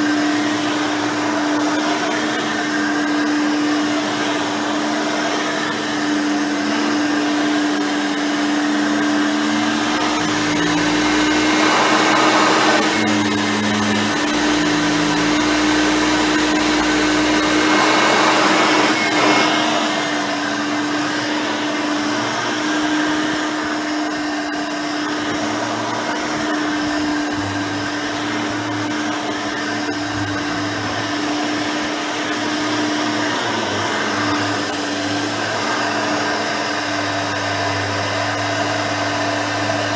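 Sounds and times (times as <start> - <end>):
upright vacuum running: 0.0 - 39.9.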